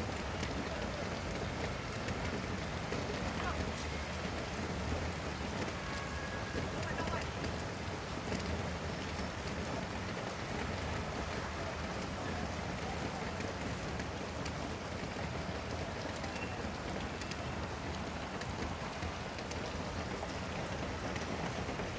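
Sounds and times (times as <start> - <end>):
rain drop ticks: 0.0 - 21.9
steady rain hiss: 0.0 - 21.9.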